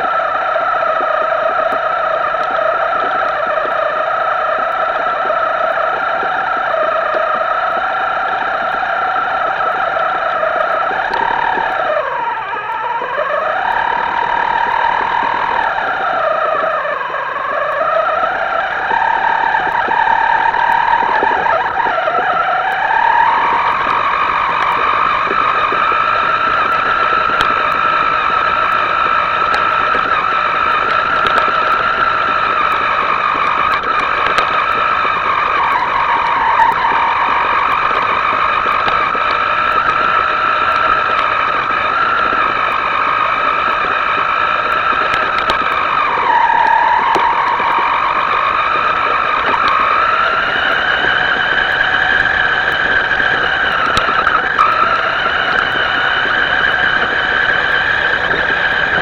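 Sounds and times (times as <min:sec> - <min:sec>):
small electric motor whining: 0:00.0 - 0:59.0.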